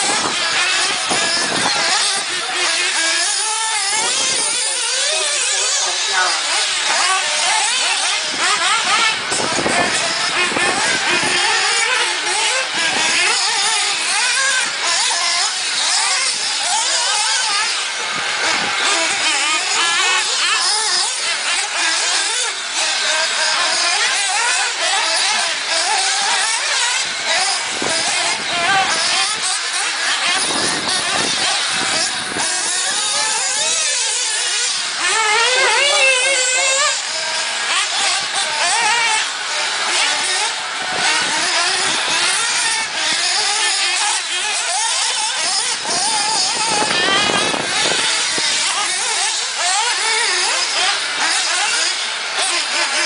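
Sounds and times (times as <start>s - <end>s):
rc car motors whining: 0.0s - 53.0s.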